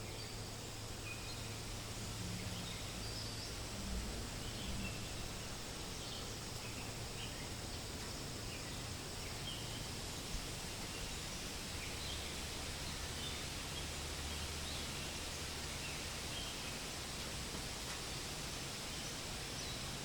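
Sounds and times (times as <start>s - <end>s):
wind through leaves: 0.0s - 20.0s.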